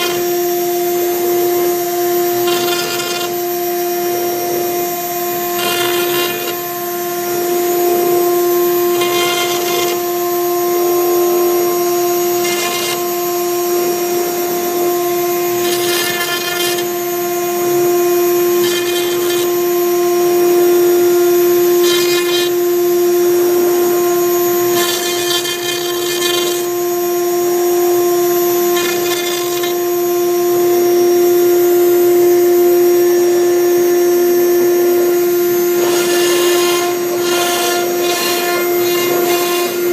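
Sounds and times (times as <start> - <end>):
bit engraving wood harshly: 0.0 - 30.2, 34.9 - 39.9
router spindle whining: 0.0 - 39.9.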